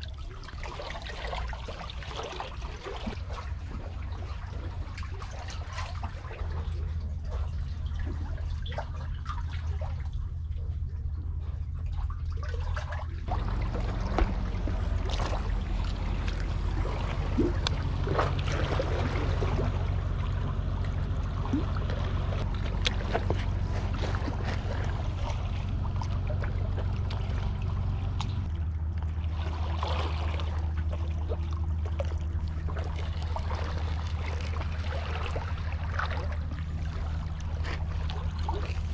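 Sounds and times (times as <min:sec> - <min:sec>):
low rumble: 0:00.0 - 0:38.9
water lapping among concrete blocks: 0:00.0 - 0:38.9.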